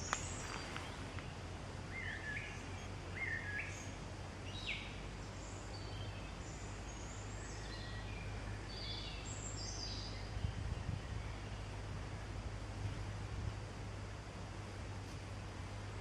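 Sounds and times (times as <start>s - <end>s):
small birds chirping: 0.0s - 13.2s
steady low hum: 0.0s - 16.0s.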